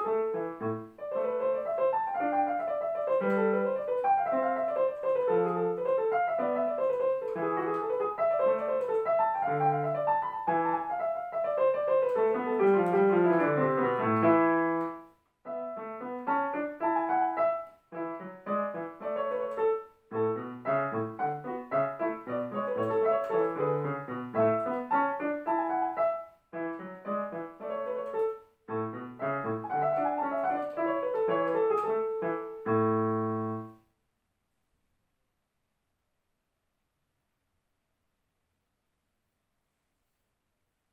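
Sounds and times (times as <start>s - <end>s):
classical piano piece: 0.0s - 33.8s.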